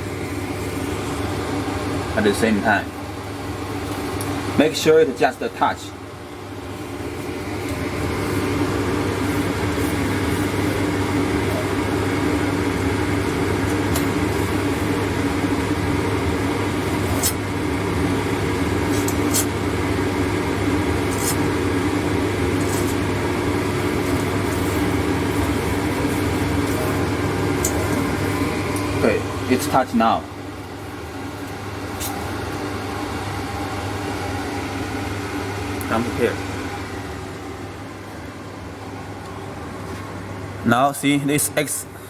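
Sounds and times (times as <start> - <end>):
grinding machine humming: 0.0 - 39.7.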